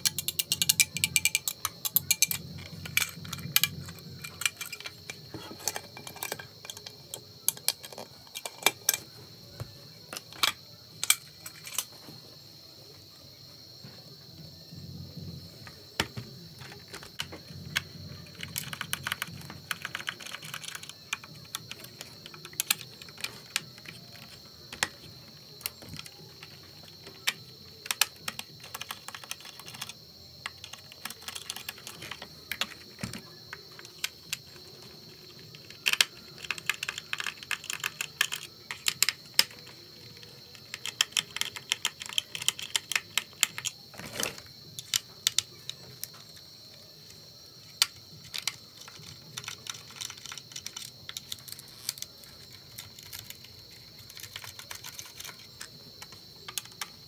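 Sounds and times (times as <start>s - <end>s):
plastic parts clicking and tapping: 0.0s - 12.0s, 15.6s - 57.0s.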